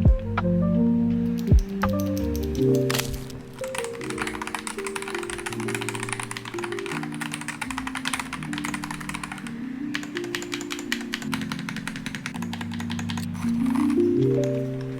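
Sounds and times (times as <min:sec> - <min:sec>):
slow background music: 0:00.0 - 0:14.9
fast typing on keyboard: 0:01.4 - 0:14.9.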